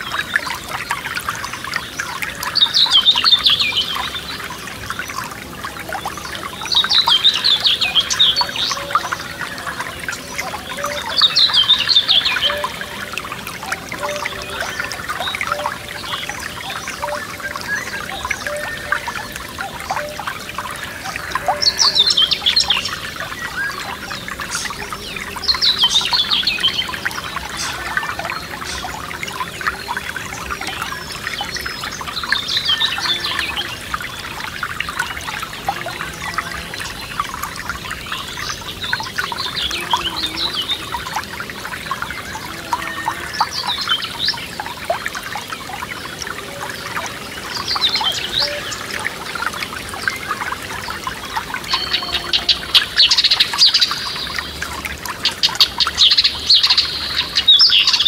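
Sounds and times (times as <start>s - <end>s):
songbird singing: 0.0s - 58.0s
stream trickling over stones: 0.0s - 58.0s.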